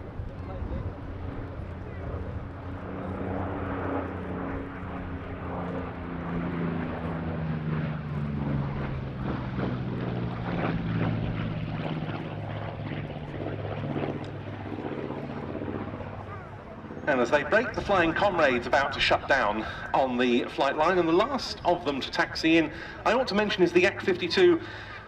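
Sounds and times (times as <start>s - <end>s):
propeller aircraft engines droning: 0.0s - 25.0s.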